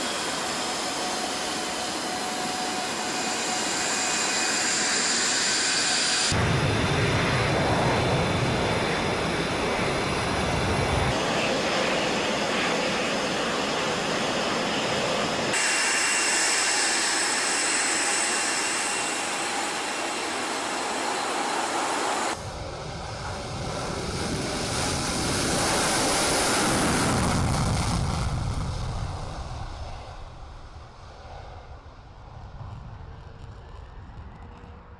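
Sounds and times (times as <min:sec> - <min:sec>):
jet engines whining: 0:00.0 - 0:34.9
jet passing by: 0:00.0 - 0:34.9.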